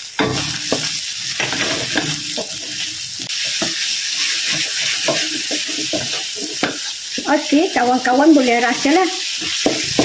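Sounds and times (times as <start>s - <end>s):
food sizzling in hot oil: 0.0s - 10.0s
spatula scraping a wok: 0.1s - 7.2s, 8.6s - 10.0s.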